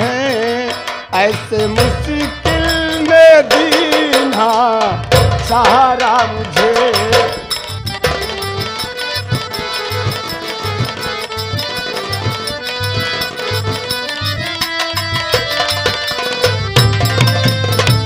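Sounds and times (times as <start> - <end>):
hand drum beat: 0.0 - 18.0
harmonium melody: 0.0 - 18.0
rapid ticking percussion: 0.0 - 18.0.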